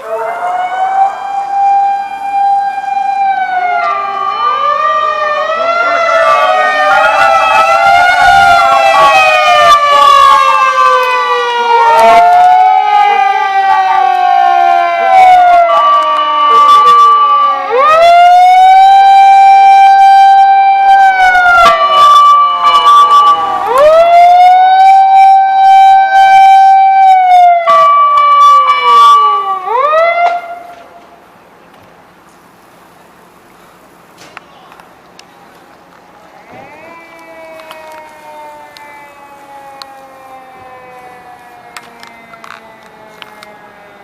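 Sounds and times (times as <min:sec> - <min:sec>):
fire engine siren wailing: 0:00.0 - 0:31.2, 0:34.7 - 0:44.0.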